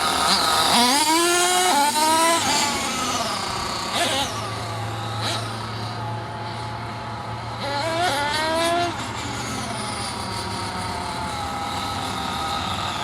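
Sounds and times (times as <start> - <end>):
small engine revving with whine: 0.0 - 13.0.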